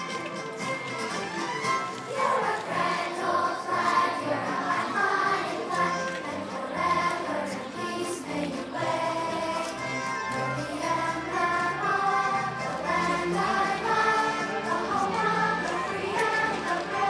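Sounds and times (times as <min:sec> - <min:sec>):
musical accompaniment: 0:00.0 - 0:17.0
children singing: 0:02.0 - 0:17.0.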